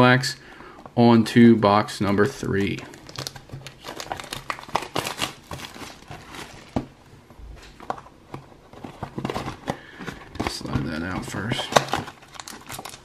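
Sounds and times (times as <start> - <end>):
cardboard packaging rustling: 1.9 - 13.0.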